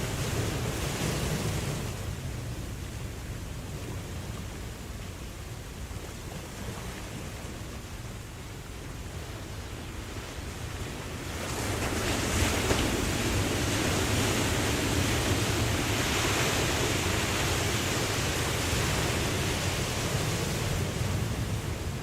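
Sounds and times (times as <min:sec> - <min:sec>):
low rumble of surf: 0:00.0 - 0:22.0
ocean waves washing in: 0:00.0 - 0:22.0.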